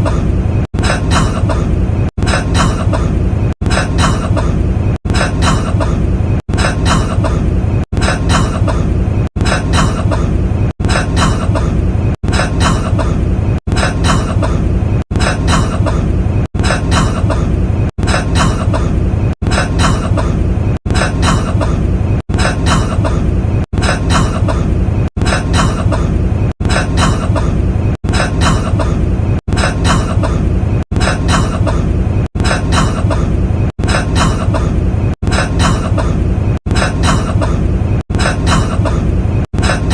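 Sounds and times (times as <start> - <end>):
man coughing: 0.0 - 39.9.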